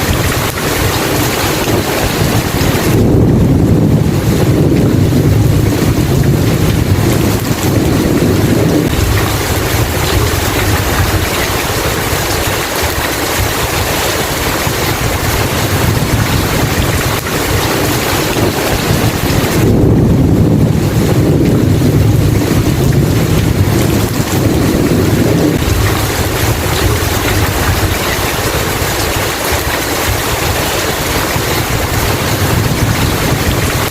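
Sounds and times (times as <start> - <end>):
loud rain: 0.0 - 33.9
rumble of thunder: 0.0 - 33.9.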